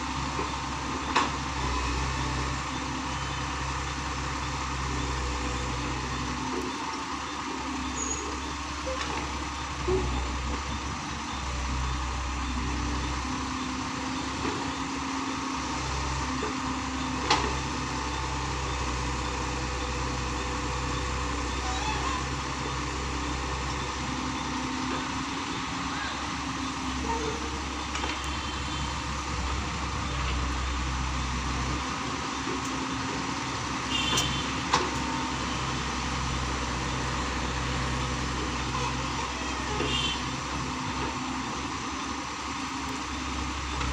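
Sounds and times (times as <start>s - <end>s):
excavator diesel engine working: 0.0s - 43.9s.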